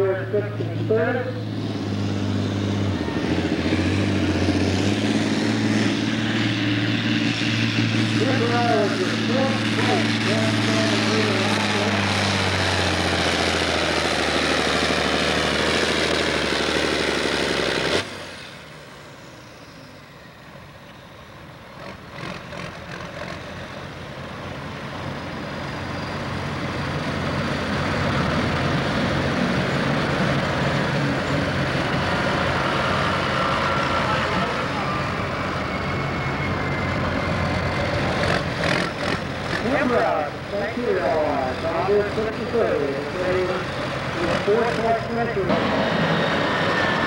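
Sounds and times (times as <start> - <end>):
quieter engine sound: 0.0 - 47.0
tractor diesel engine under load: 0.0 - 47.0.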